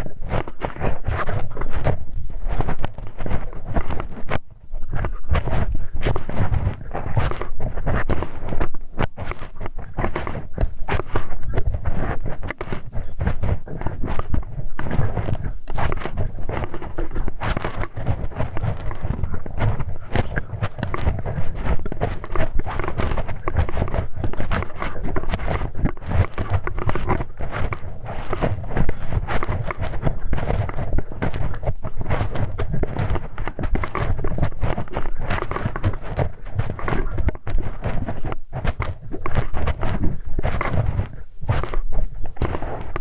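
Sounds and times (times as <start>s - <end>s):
tool scraping and tapping microphone: 0.0s - 43.0s.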